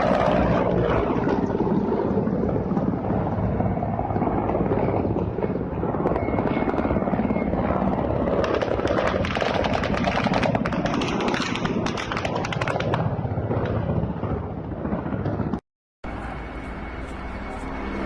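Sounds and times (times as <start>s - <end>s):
helicopter rotor chop: 0.0s - 18.0s.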